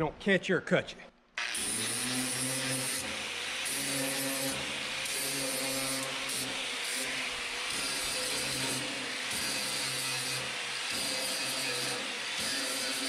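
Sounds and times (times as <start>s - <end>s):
angle grinder sanding steel: 1.4s - 13.0s.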